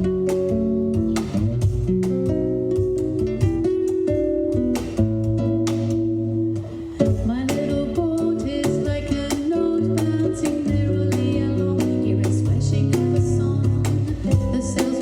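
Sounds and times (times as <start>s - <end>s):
acoustic guitar playing: 0.0s - 15.0s
hand percussion: 0.0s - 15.0s.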